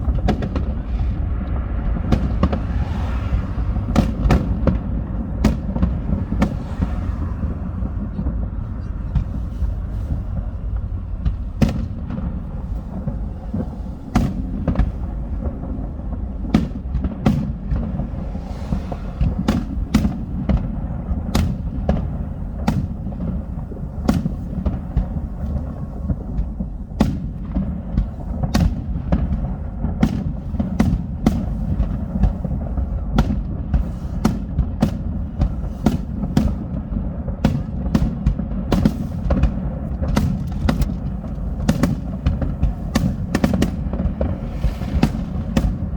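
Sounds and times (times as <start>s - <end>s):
firework cracks and bangs: 0.0s - 45.9s
low rumble of firework bursts: 0.0s - 45.9s.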